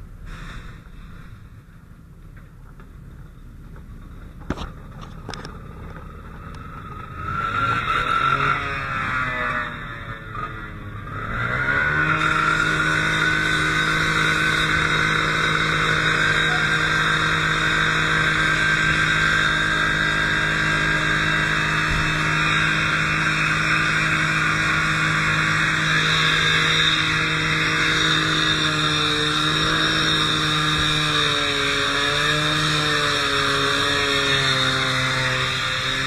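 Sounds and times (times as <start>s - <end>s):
steady whine: 0.0s - 32.5s
engine running at high speed: 0.0s - 36.0s.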